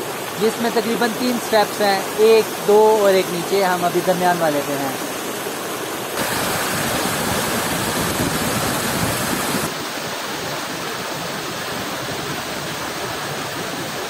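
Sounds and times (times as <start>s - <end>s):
waterfall pouring over rocks: 0.0s - 14.0s.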